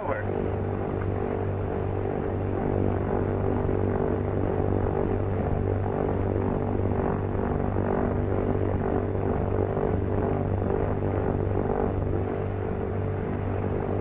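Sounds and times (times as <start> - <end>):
propeller aircraft engines humming: 0.0 - 14.0.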